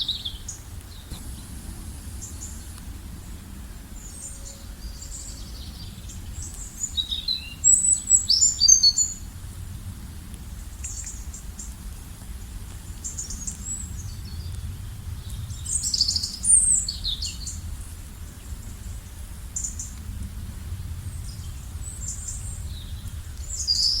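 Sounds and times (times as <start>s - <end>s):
songbirds chirping: 0.0s - 9.5s, 10.4s - 24.0s
low steady rumble: 0.0s - 24.0s.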